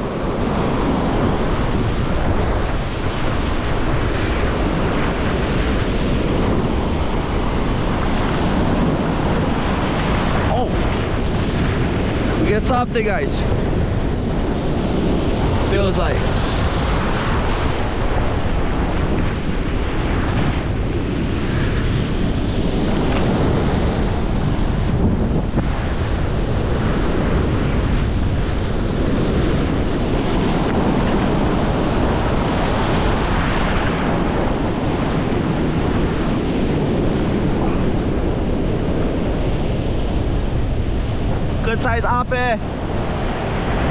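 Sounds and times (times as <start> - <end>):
ocean surf washing ashore: 0.0 - 43.9
wind buffeting microphone: 0.0 - 43.9.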